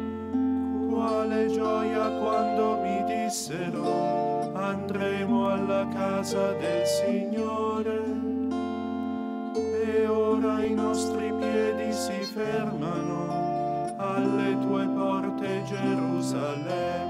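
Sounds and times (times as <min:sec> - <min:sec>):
harp playing chords: 0:00.0 - 0:17.0
men singing a hymn: 0:00.9 - 0:08.3, 0:09.6 - 0:17.0.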